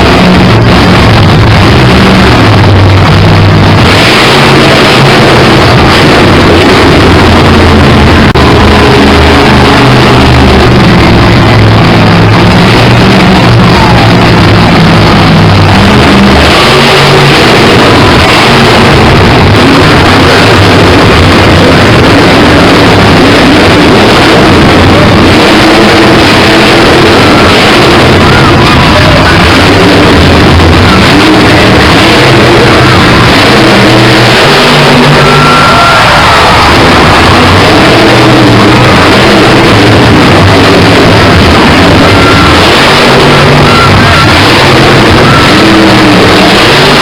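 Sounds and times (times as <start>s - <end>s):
monster truck engines revving: 0.0s - 47.0s.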